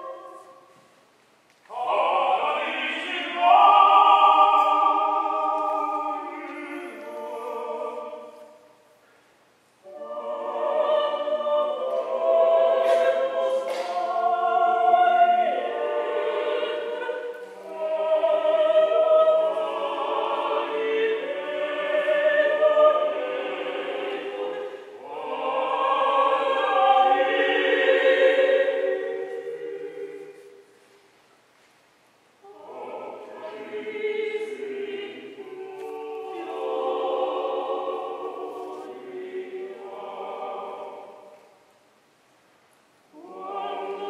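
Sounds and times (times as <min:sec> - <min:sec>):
vocal quartet singing unaccompanied: 0:00.0 - 0:01.0, 0:01.6 - 0:09.0, 0:09.8 - 0:31.0, 0:32.4 - 0:42.0, 0:43.0 - 0:44.0.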